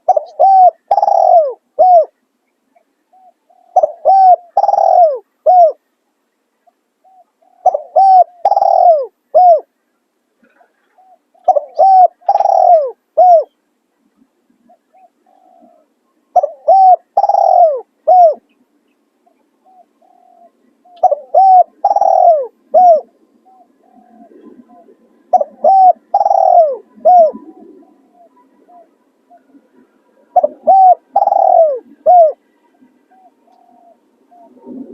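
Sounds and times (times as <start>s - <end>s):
dove cooing: 0.0s - 2.2s, 3.1s - 5.8s, 7.0s - 9.8s, 10.4s - 13.6s, 14.6s - 18.5s, 19.2s - 34.9s.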